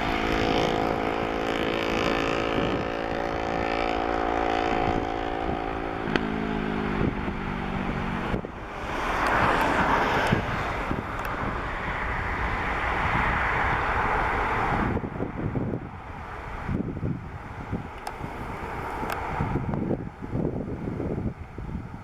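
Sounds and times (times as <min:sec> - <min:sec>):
jet engine roar: 0:00.0 - 0:21.0
jet engine whine: 0:00.0 - 0:22.0
wind buffeting microphone: 0:00.0 - 0:22.0.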